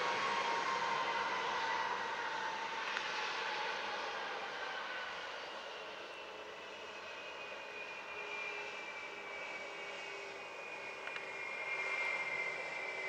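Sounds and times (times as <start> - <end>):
jet engines rushing and whining: 0.0 - 13.0.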